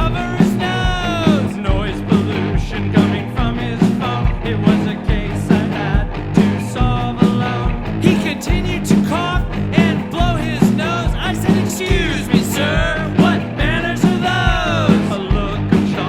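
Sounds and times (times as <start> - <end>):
rock band playing: 0.0 - 16.0
steady drum beat: 0.0 - 16.0.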